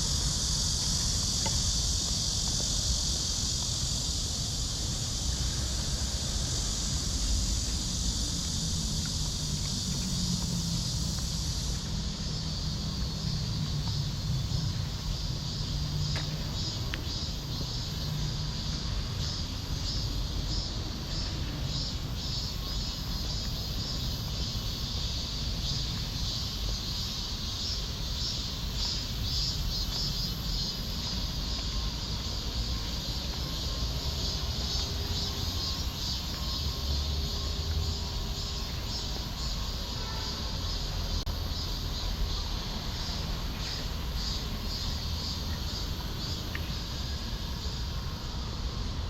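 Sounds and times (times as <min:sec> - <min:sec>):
insects chirping: 0:00.0 - 0:49.0.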